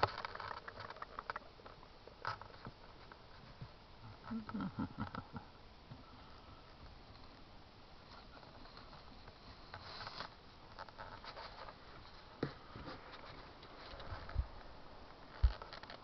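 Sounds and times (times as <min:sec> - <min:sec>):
faint rustling and scratching: 0:00.0 - 0:16.0.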